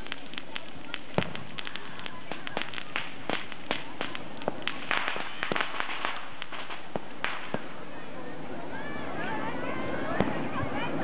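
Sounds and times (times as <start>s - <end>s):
fireworks bursting with bangs: 0.0s - 8.2s, 9.9s - 11.0s.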